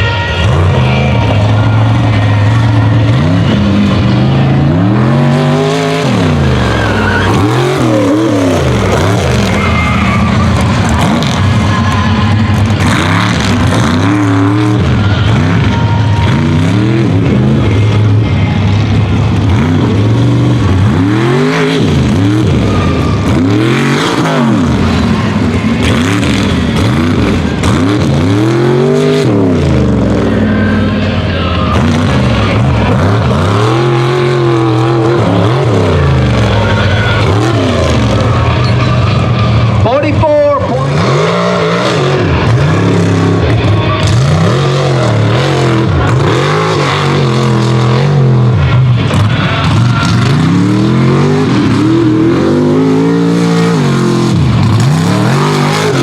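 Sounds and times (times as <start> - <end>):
truck engines revving hard: 0.0 - 56.0.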